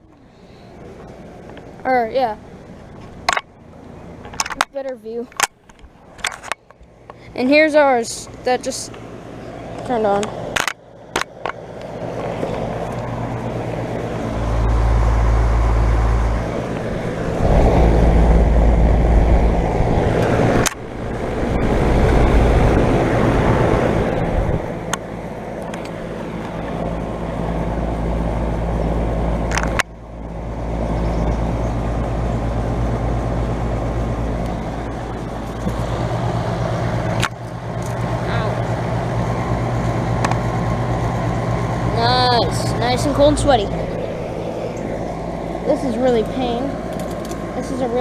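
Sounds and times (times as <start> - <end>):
air conditioner unit humming: 0.0 - 48.0
heavy low rumble: 0.0 - 48.0.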